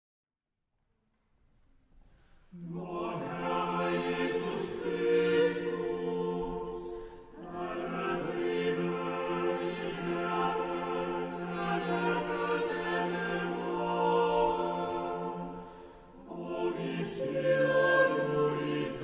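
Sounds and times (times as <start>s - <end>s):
choir singing: 2.5s - 19.0s.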